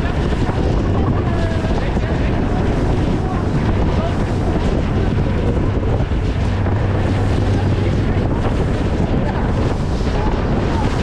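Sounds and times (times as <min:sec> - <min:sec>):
boat engine low drone: 0:00.0 - 0:11.0
water rushing off hull: 0:00.0 - 0:11.0
wind buffeting microphone: 0:00.0 - 0:11.0.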